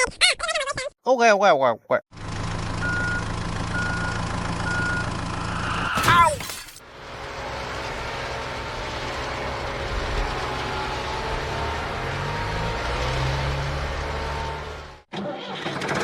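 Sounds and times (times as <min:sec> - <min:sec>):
engine running: 0:02.1 - 0:15.1.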